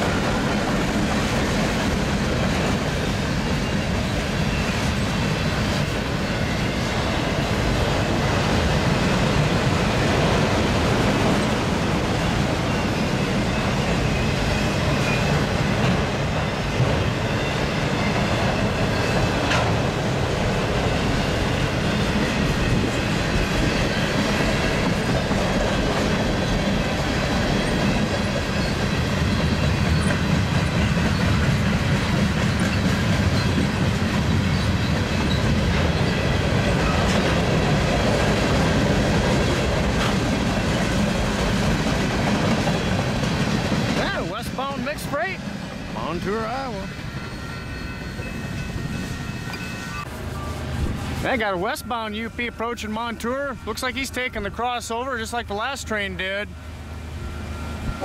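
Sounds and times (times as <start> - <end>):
train wheels clattering over rails: 0.0 - 50.0.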